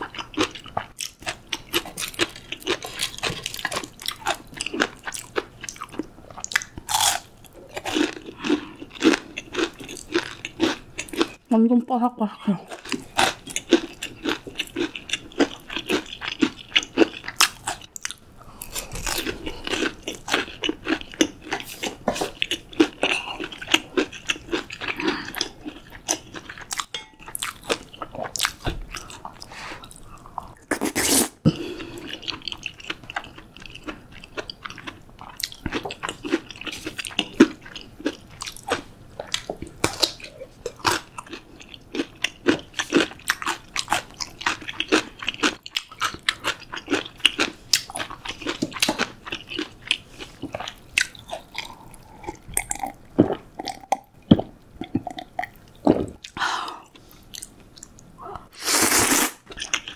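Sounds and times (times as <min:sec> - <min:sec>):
crunching and chewing food: 0:00.0 - 0:11.5, 0:12.7 - 0:30.9, 0:31.6 - 0:58.2, 0:59.4 - 0:59.9.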